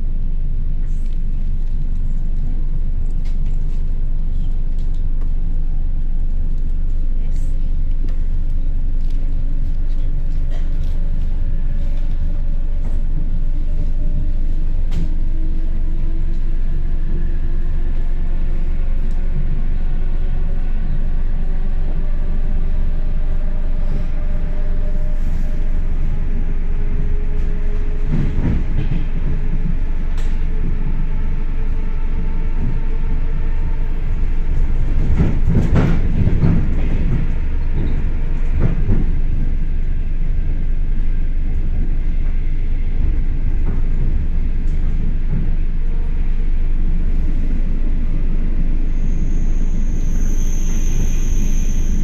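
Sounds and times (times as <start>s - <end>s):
electric train rumbling: 0.0s - 52.0s.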